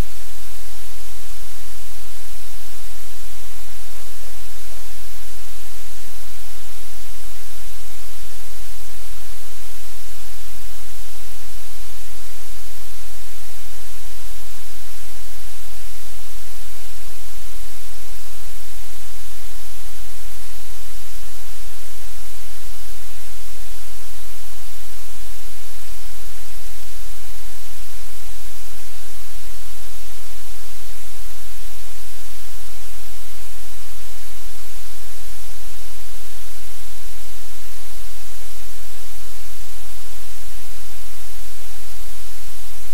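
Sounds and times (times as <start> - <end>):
static-like hiss: 0.0 - 42.9.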